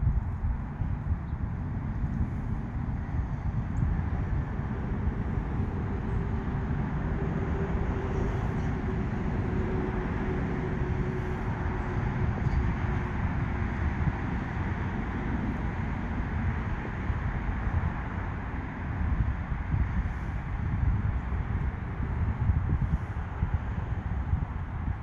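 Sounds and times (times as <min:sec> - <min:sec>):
distant vehicle rumble: 0:00.0 - 0:25.0
faint hum: 0:00.0 - 0:25.0.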